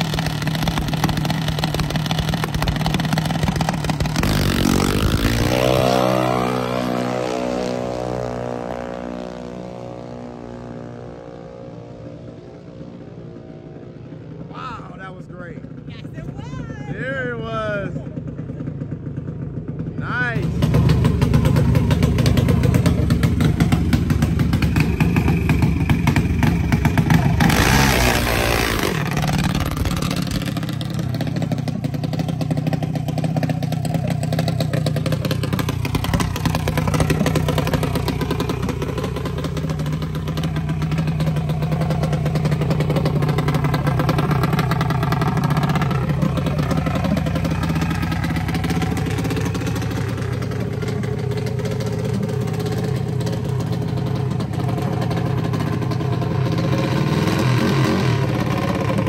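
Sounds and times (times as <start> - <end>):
dragster engine revving: 0.0 - 13.2, 20.4 - 59.0.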